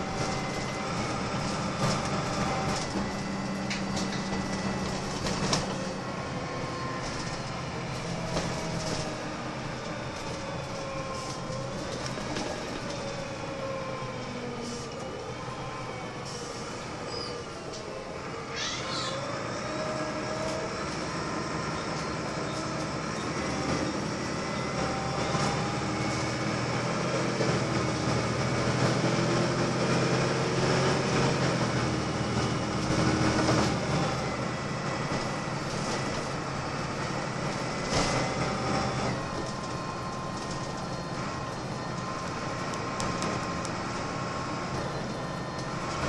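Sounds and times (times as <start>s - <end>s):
bus engine drone: 0.0s - 46.0s
road and body noise: 0.0s - 46.0s.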